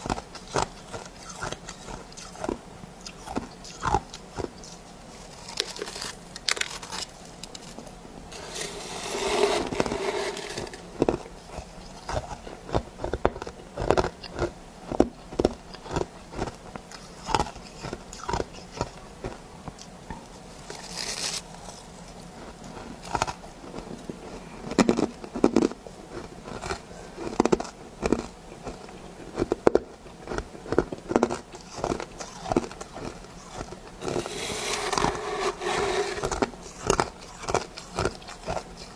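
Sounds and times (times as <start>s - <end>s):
chewing soft ice crunches: 0.0s - 7.7s, 11.0s - 19.9s, 20.7s - 35.2s, 36.1s - 38.9s.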